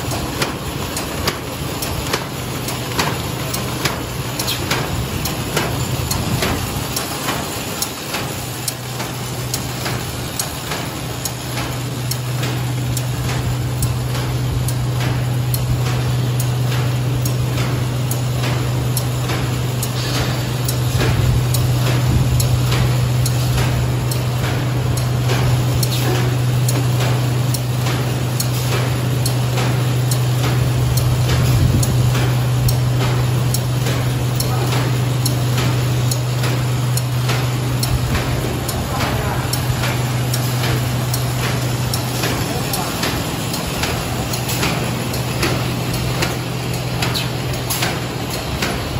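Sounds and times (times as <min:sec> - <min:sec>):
fast even mechanical clicking: 0:00.0 - 0:48.9
machine low hum: 0:00.0 - 0:48.9.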